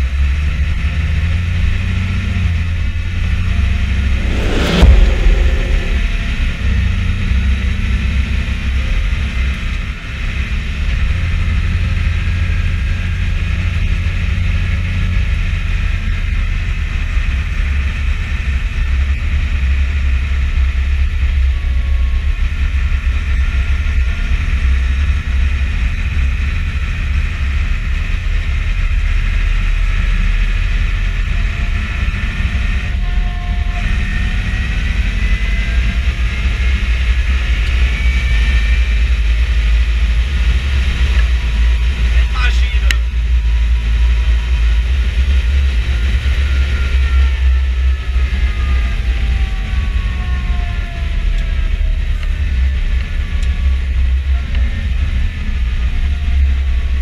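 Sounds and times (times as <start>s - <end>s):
tractor engine drone from cab: 8.8s - 57.0s.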